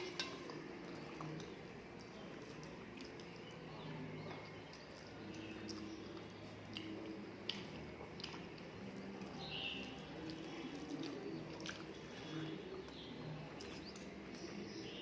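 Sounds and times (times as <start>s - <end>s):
person chewing food: 0.0s - 14.7s.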